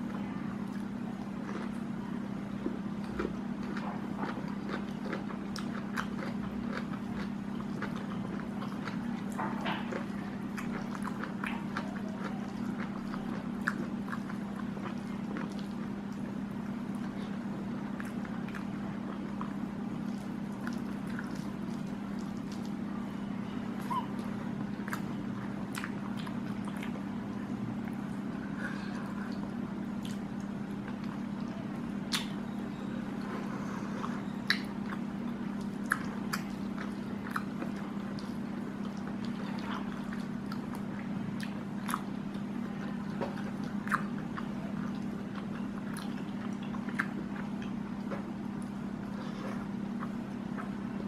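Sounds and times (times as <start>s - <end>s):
steady low hum: 0.0s - 51.0s
chewing and lip smacks: 0.6s - 1.9s, 2.6s - 22.8s, 23.8s - 27.1s, 28.8s - 32.5s, 33.2s - 51.0s.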